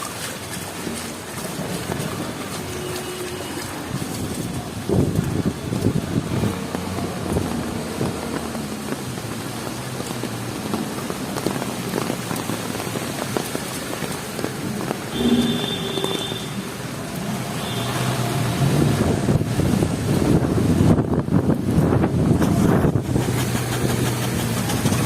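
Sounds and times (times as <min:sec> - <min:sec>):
heavy rain on street: 0:00.0 - 0:25.0
vehicle engine: 0:03.7 - 0:25.0.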